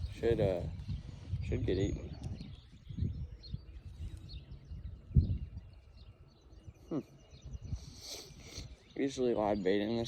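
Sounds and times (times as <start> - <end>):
small birds chirping: 0.0 - 10.0
wind buffeting microphone: 0.0 - 10.0.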